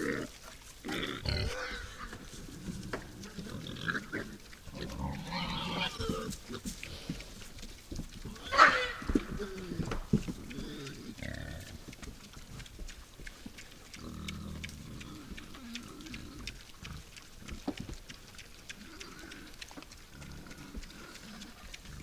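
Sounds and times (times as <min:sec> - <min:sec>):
wild boars grunting: 0:00.0 - 0:22.0.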